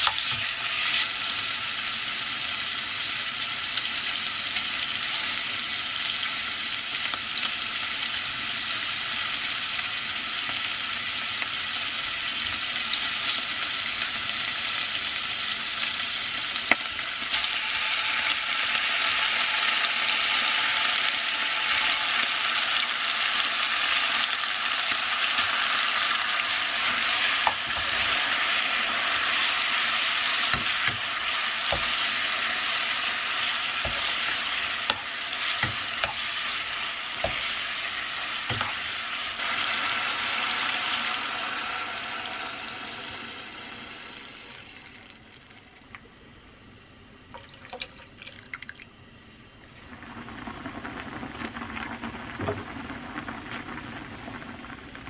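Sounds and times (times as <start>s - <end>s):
food sizzling in a pot: 0.0s - 45.7s, 49.8s - 55.0s.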